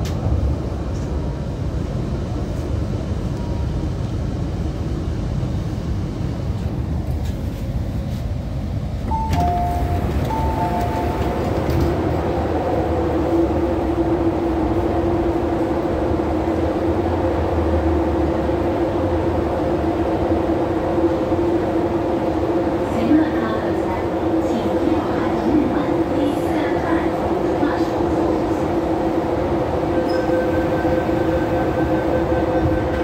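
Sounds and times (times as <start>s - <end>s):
metro train wheels rumbling: 0.0s - 33.0s.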